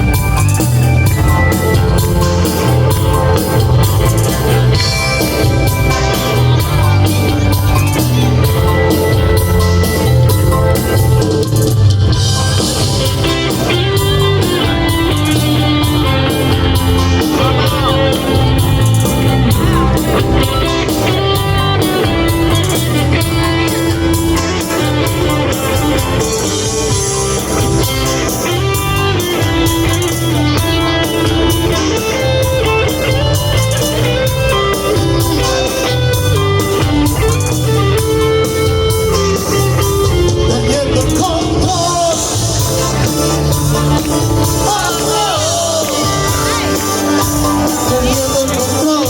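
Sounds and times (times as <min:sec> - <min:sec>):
electric guitar: 0:00.0 - 0:49.0
rock band playing live: 0:00.0 - 0:49.0.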